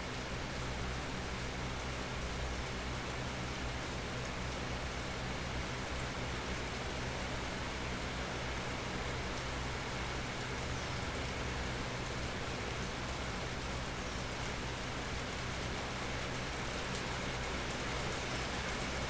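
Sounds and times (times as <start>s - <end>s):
steady rain pattering: 0.0s - 19.0s.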